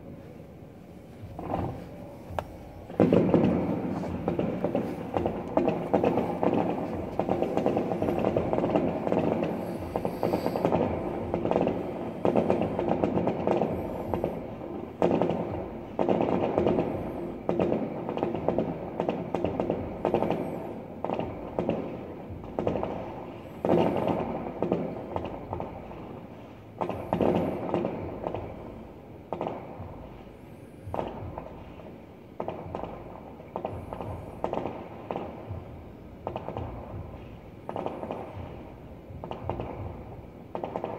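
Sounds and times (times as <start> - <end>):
fireworks banging and crackling: 1.0 - 40.9.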